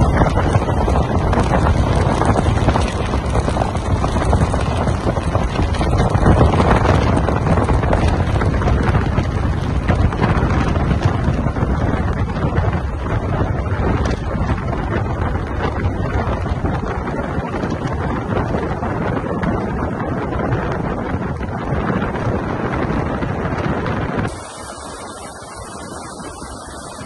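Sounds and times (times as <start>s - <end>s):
water rushing past a boat hull: 0.0s - 27.0s
wind buffeting the microphone: 0.0s - 27.0s.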